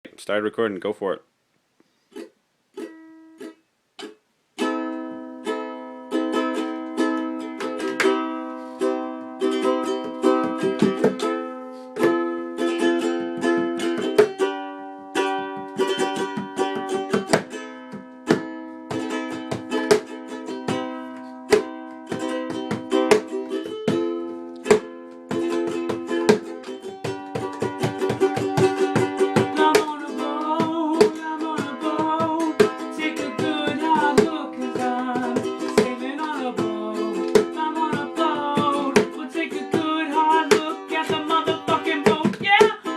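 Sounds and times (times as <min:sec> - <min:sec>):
ukulele strumming: 0:02.1 - 0:42.9.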